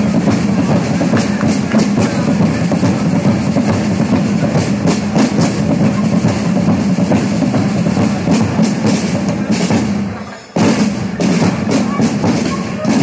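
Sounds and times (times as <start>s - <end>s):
music with loud drumming: 0.0s - 13.0s.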